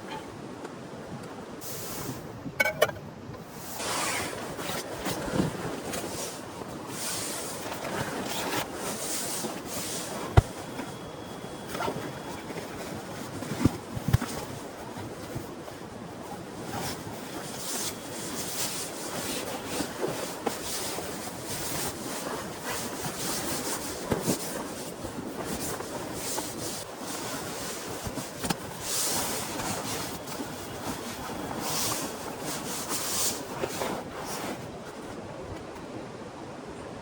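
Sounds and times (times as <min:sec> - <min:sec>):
close rustling and rubbing: 0:03.6 - 0:35.2.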